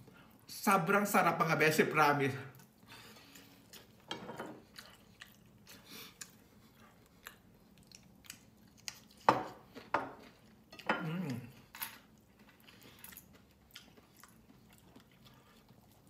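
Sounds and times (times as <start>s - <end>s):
person chewing food: 2.5s - 16.0s.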